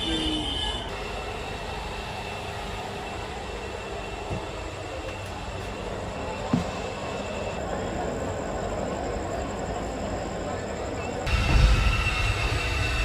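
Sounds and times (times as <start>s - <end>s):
train coach rumble and hiss: 0.0s - 13.0s.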